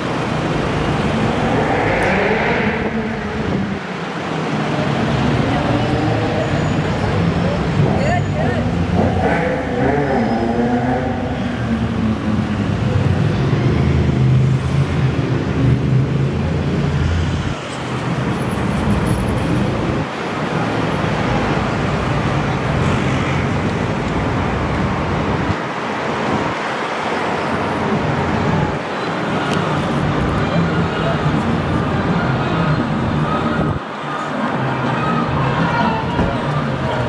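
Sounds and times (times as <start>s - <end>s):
street traffic: 0.0s - 37.0s.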